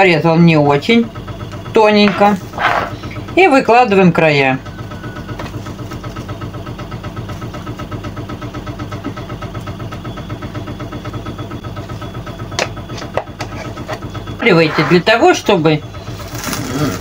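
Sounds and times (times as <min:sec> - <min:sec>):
engine running with pulsing hum: 0:00.0 - 0:17.0.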